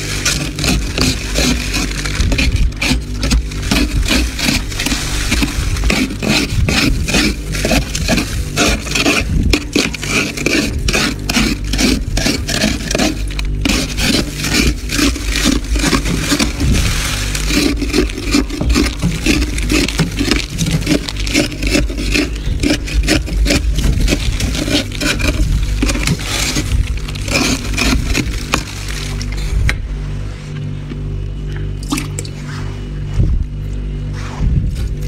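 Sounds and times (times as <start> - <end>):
spoon scraping frost: 0.0 - 29.7.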